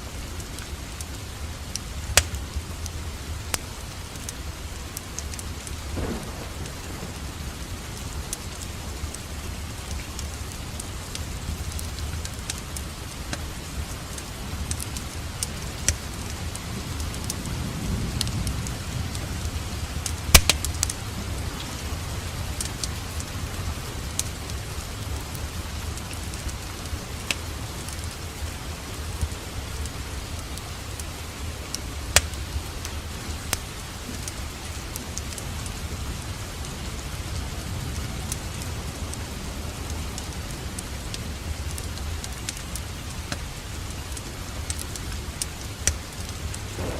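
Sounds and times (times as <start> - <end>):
fireplace crackling and popping: 0.0 - 46.9
steady rain: 0.0 - 46.9.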